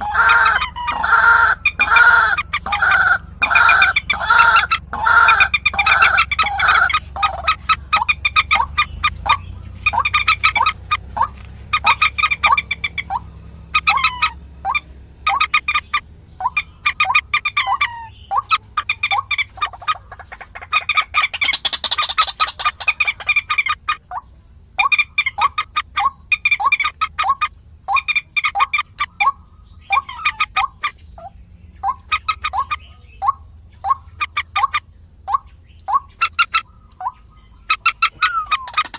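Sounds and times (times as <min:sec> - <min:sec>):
moorhen clucking calls: 0:00.0 - 0:38.9.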